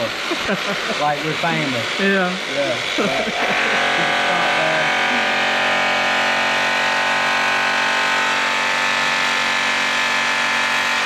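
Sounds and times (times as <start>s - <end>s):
polisher whining: 0.0s - 11.0s.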